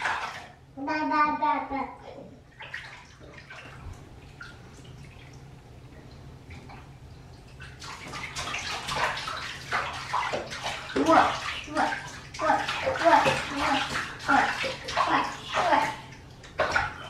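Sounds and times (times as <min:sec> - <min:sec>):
water splashing in bathtub: 0:00.0 - 0:17.0.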